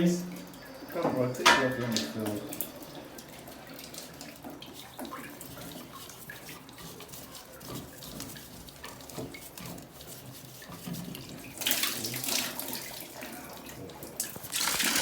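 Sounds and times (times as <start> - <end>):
water rushing from pipework: 0.0 - 15.0.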